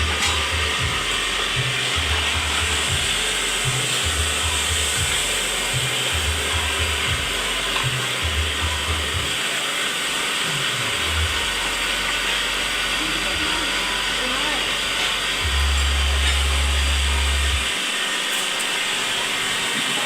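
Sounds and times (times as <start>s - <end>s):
background music with bass: 0.0s - 9.6s, 10.5s - 17.8s
vibrating block press whirring: 0.0s - 20.0s.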